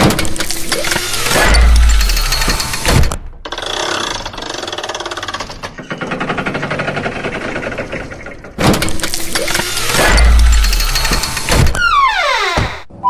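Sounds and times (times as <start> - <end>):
rapid mechanical pulsing: 0.5 - 11.7.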